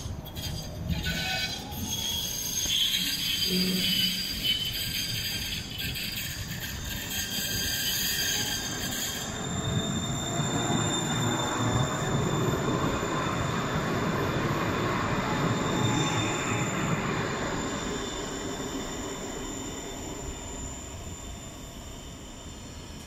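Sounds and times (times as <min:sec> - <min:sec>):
high whine: 0:00.0 - 0:23.0
tram wheels rumbling on rails: 0:00.0 - 0:23.0.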